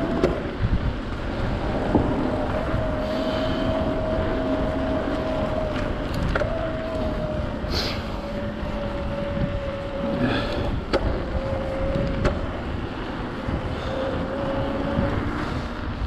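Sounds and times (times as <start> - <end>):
bike tyre and wind rumble: 0.0 - 16.0.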